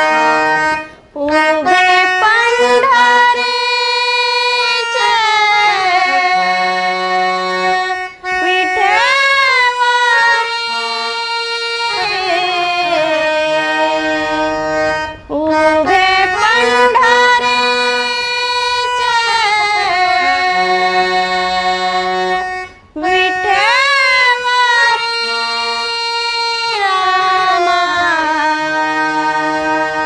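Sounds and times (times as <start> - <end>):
person singing long ornamented notes: 0.0 - 30.0
steady held accompaniment: 0.0 - 30.0.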